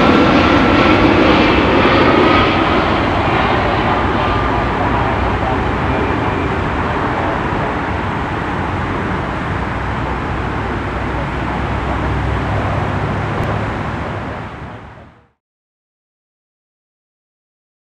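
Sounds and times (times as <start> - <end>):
jet engine rushing and rumbling: 0.0 - 15.4.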